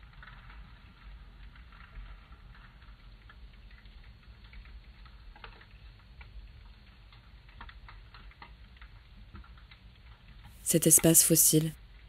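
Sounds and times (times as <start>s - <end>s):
low steady underwater rumble: 0.0s - 10.6s
underwater clicks and crackles: 0.0s - 10.6s.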